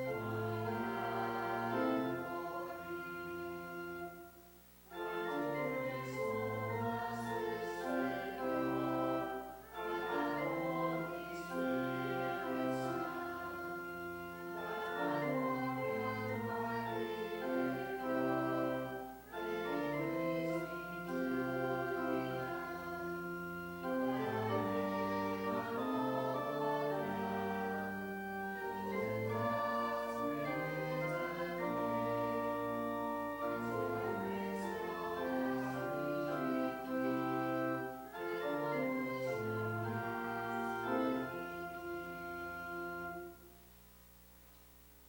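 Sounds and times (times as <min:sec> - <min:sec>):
church organ playing hymn: 0:00.0 - 0:43.5.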